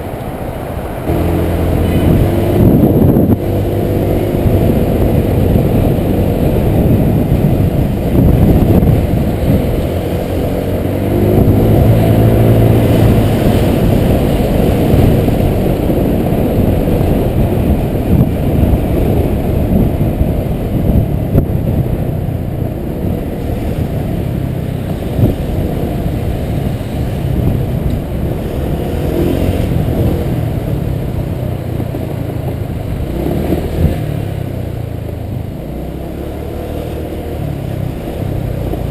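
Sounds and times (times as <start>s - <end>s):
heavy road noise: 0.0s - 38.9s
scooter engine running: 1.0s - 38.9s.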